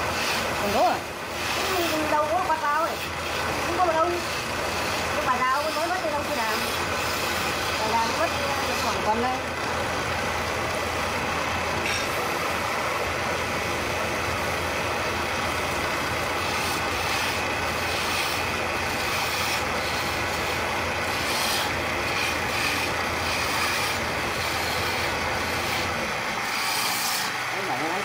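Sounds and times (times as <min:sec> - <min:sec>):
chisel cutting spinning wood: 0:00.0 - 0:28.0
wood lathe running: 0:00.0 - 0:28.0.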